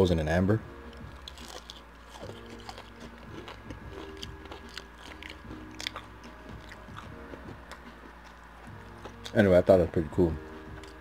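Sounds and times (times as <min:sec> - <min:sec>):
quiet background music: 0:00.0 - 0:11.0
chewing crispy onion ring: 0:00.9 - 0:09.6, 0:10.5 - 0:11.0.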